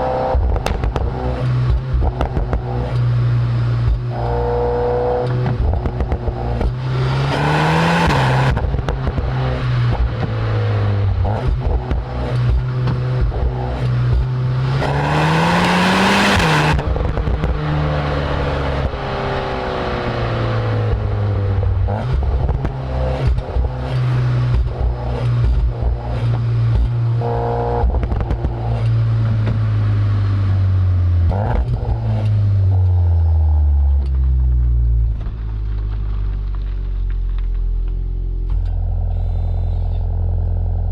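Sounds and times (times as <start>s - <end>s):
car engine revving: 0.0s - 40.9s
exhaust pops and crackles: 0.0s - 40.9s.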